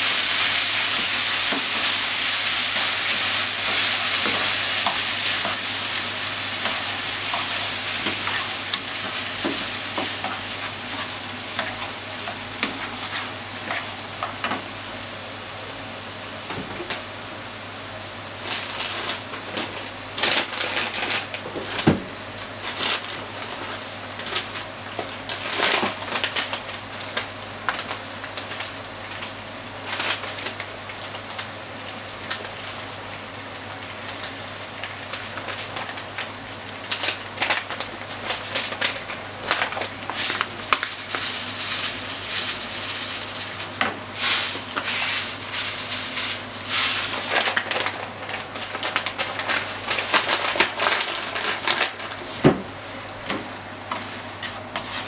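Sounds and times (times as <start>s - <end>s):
food sizzling in frying pan: 0.0s - 55.0s.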